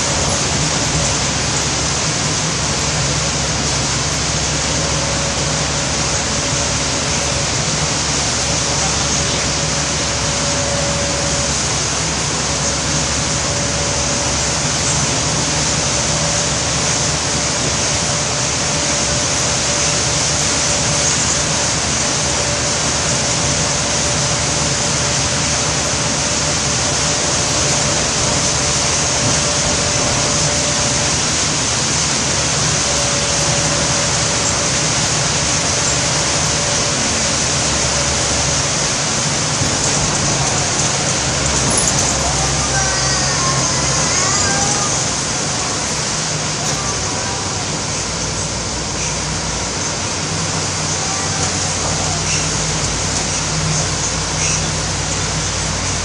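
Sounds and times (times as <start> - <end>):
heavy rain: 0.0 - 56.0
vehicle running: 0.0 - 56.0.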